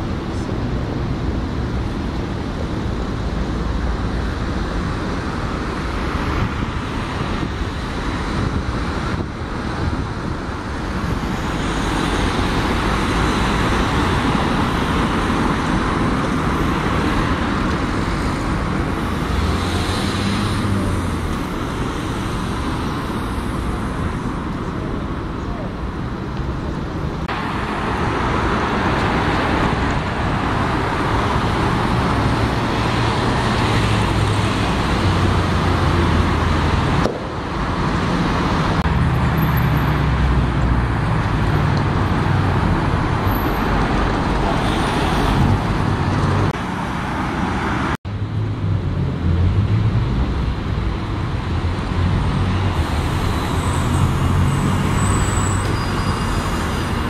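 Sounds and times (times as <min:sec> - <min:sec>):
city street traffic: 0:00.0 - 0:57.0
diesel buses rumbling past: 0:00.0 - 0:57.0.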